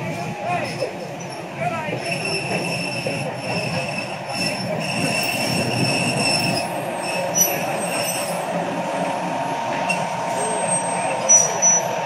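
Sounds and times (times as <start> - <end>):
rumble of rolling train cars: 0.0 - 12.0
train wheels squealing: 0.6 - 8.5, 9.9 - 12.0.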